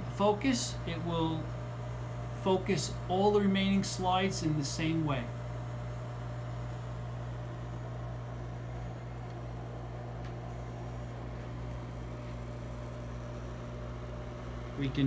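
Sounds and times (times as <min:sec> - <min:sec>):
slide projector fan humming: 0:00.0 - 0:15.0.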